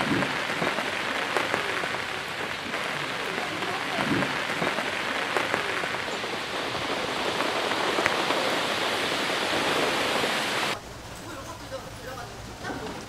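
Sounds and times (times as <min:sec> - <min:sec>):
steady rain on wet ground: 0:00.0 - 0:13.0.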